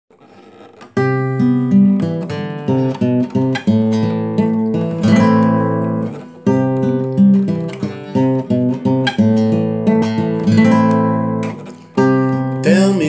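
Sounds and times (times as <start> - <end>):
acoustic classical guitar: 0.1 - 13.0.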